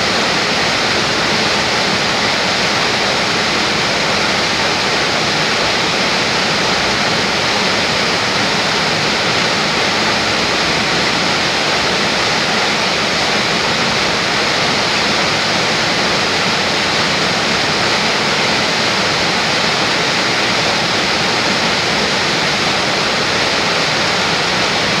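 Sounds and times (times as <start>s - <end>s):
water rushing between rocks: 0.0s - 25.0s.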